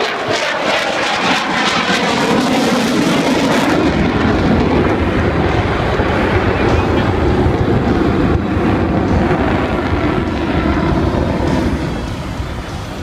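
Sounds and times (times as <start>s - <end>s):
loud jet engine noise: 0.0s - 13.0s.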